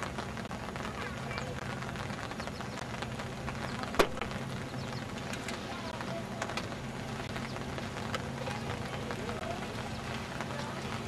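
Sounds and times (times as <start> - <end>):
distant train rumble: 0.0 - 11.0
outdoor ambience: 0.0 - 11.0.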